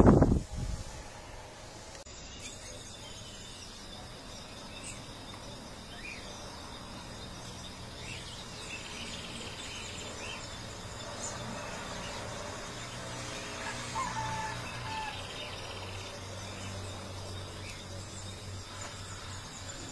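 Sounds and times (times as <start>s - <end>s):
steady background hiss: 0.0s - 19.9s.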